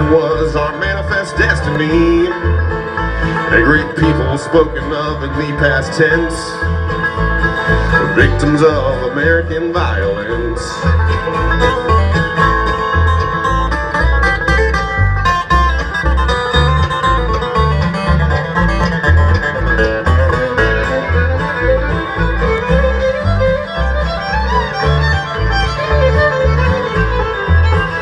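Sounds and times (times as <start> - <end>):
alternating bass line: 0.0 - 28.0
fiddle: 0.0 - 28.0
guitar: 0.0 - 28.0
rapid banjo picking: 0.0 - 28.0.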